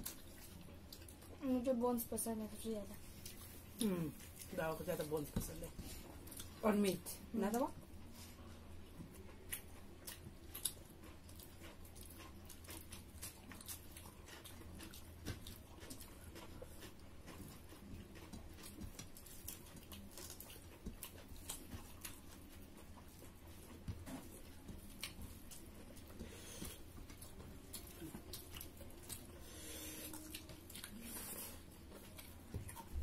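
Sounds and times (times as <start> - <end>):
chewing and lip-smacking: 0.0 - 1.4, 3.1 - 6.6, 8.4 - 33.0
faint low hum: 0.0 - 33.0.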